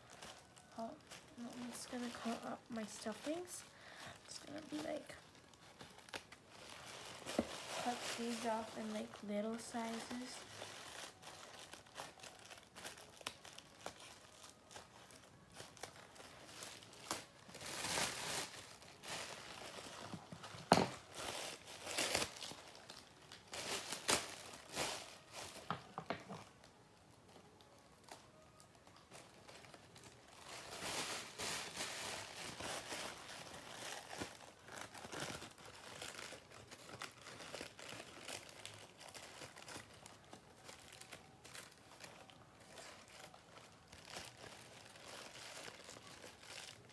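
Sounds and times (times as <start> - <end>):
stuffing crinkling and rustling: 0.0 - 46.9.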